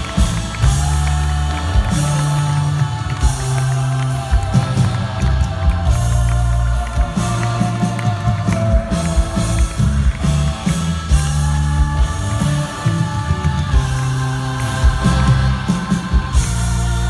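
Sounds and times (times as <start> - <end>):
loud live rock music: 0.0 - 17.0.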